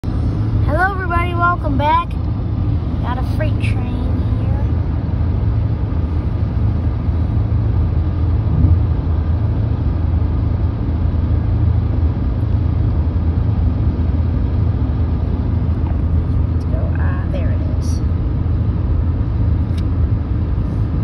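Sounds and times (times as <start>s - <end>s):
car driving on highway: 0.0s - 21.0s.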